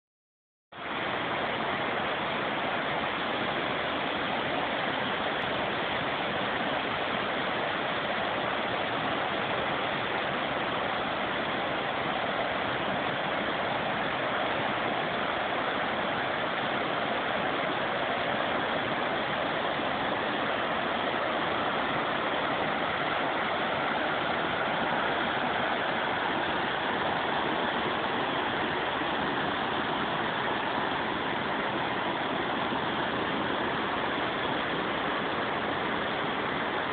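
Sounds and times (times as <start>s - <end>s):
floodwater rushing: 0.8s - 36.9s.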